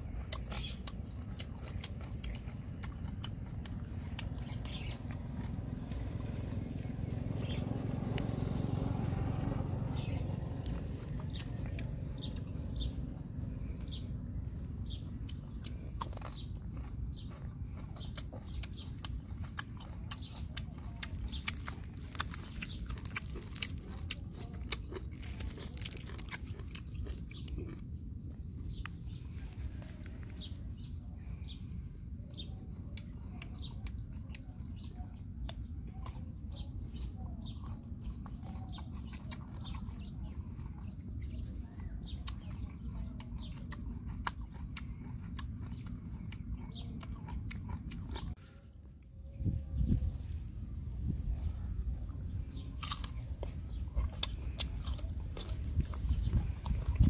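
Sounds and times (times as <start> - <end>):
chewing crunchy fruit: 0.0 - 57.0
steady low rumble: 0.0 - 57.0
birds chirping faintly: 0.1 - 57.0.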